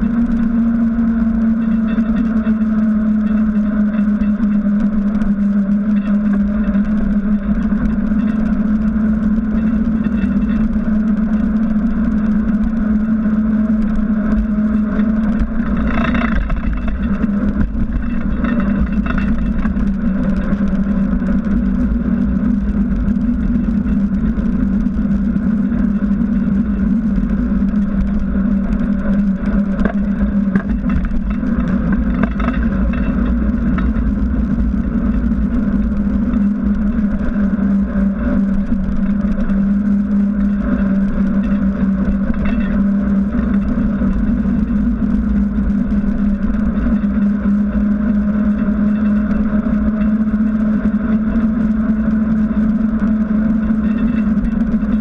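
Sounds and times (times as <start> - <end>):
bike tyre rolling on asphalt: 0.0 - 55.0
wind on microphone: 0.0 - 55.0.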